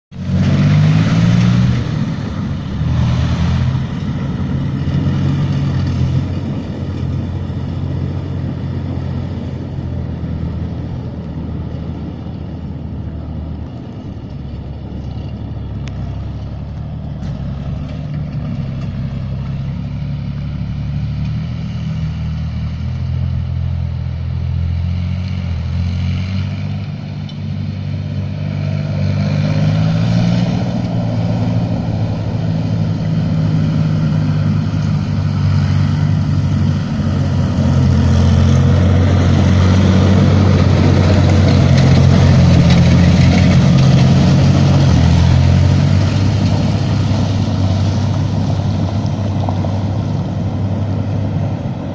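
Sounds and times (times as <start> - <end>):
tracked vehicle diesel engine: 0.1 - 51.9.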